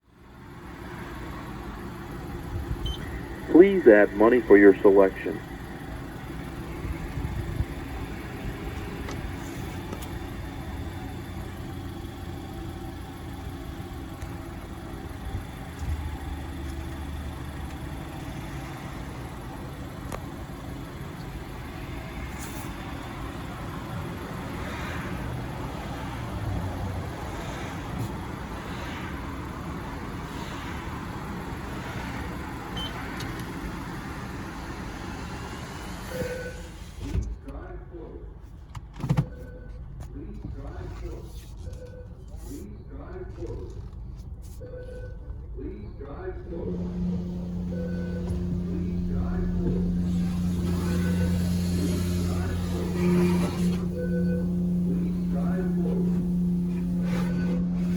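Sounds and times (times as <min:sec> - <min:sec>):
car engine idling: 0:00.0 - 0:37.0, 0:45.4 - 0:57.9.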